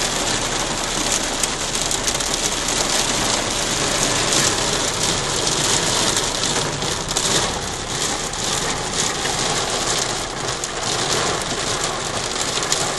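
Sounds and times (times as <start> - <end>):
heavy rain on a car roof: 0.0 - 12.9.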